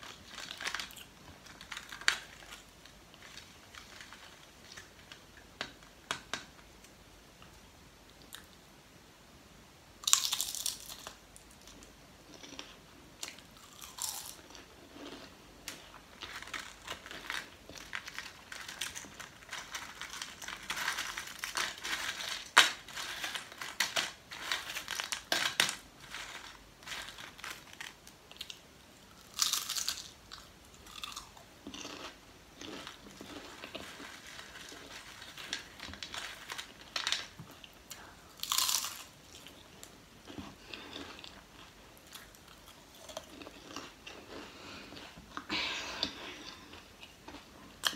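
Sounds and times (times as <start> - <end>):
potato chips bitten and chewed: 0.0 - 8.6, 10.0 - 47.9.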